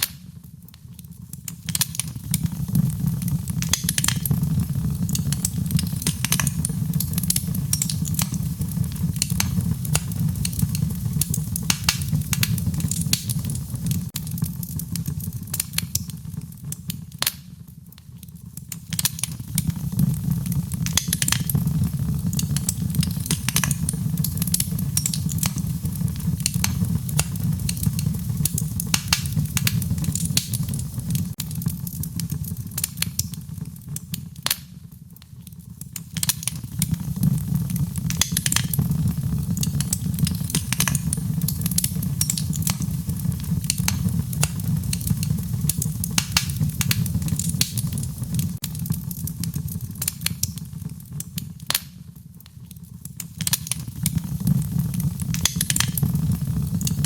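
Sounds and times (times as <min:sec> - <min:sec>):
fire crackling and popping: 0:00.0 - 0:57.0
flames rumbling: 0:00.0 - 0:57.0.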